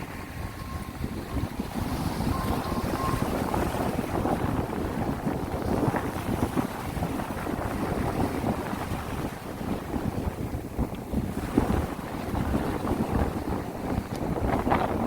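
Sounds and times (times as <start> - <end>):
sea waves: 0.0 - 15.0
wind on microphone: 0.0 - 15.0.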